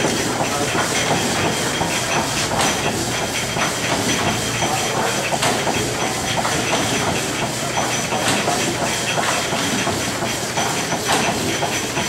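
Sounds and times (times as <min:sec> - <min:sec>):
light mechanical clatter: 0:00.0 - 0:12.0.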